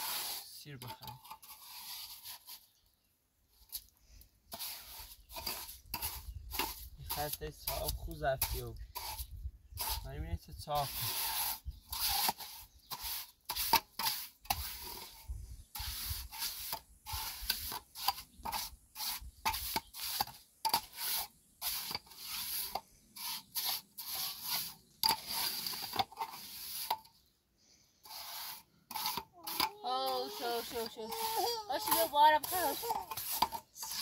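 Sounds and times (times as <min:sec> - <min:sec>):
trowel scraping wet cement: 0:00.0 - 0:02.8, 0:04.5 - 0:27.3, 0:28.0 - 0:34.0.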